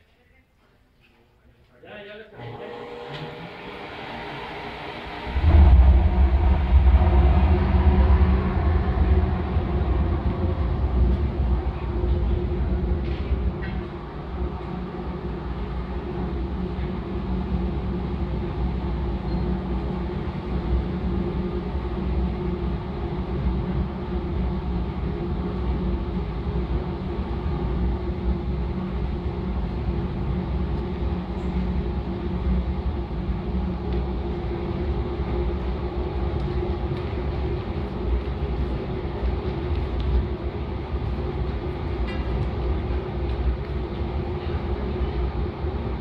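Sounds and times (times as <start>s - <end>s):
gas burner and blower roaring: 2.4s - 46.0s
low hum: 2.4s - 46.0s.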